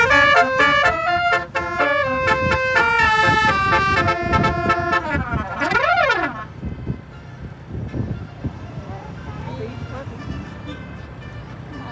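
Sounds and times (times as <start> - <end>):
engine and road noise: 0.0 - 11.9
musical bus air horn: 0.0 - 11.9.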